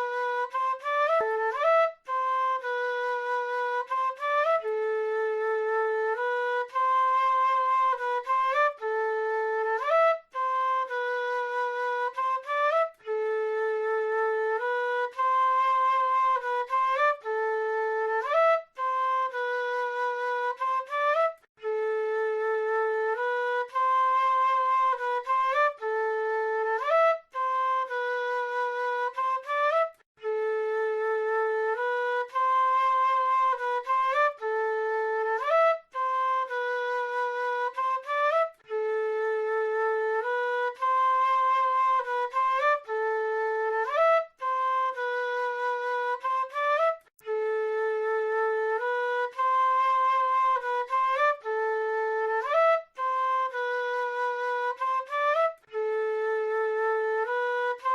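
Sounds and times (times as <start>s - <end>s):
flute melody: 0.0s - 57.9s.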